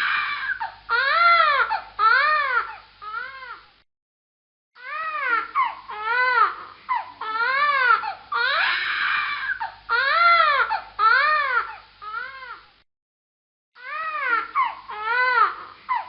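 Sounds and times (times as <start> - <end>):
baby crying: 0.0 - 3.7, 4.8 - 12.7, 13.8 - 16.0.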